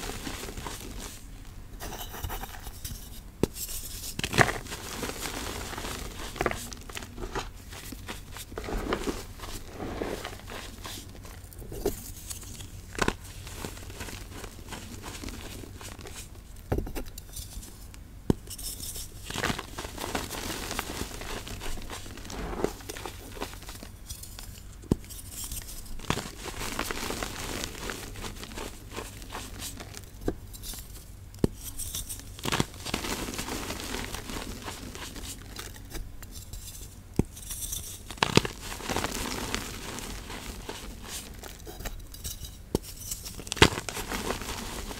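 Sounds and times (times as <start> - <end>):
chalk crunching and crumbling: 0.0 - 44.9.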